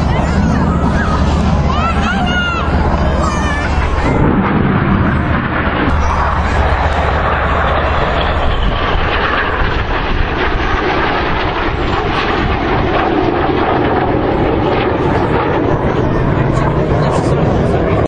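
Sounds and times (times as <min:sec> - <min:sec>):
aircraft engine flying past: 0:00.0 - 0:18.0.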